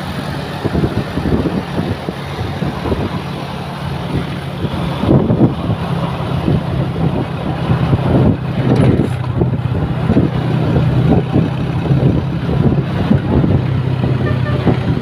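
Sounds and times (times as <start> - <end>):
large bus engine drone: 0.0 - 15.0.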